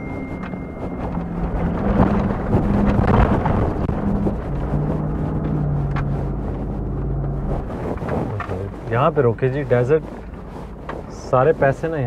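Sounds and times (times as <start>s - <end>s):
body and tyres rumbling: 0.0s - 12.0s
car engine running: 0.0s - 12.0s
wind buffeting through window: 0.0s - 12.0s.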